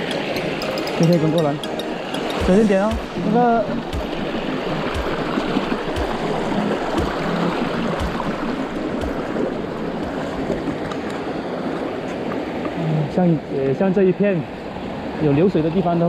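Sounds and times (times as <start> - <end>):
stream rushing over rocks: 0.0 - 15.1.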